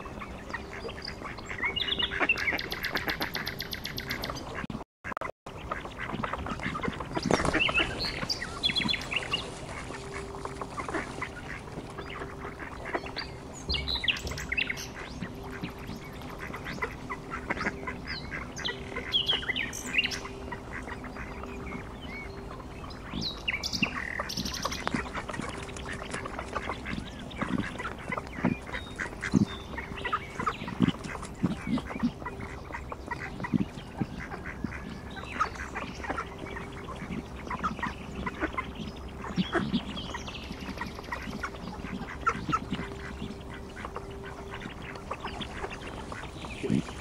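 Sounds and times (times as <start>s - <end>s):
ducks quacking: 0.0s - 47.0s
faint steady hum: 5.5s - 47.0s.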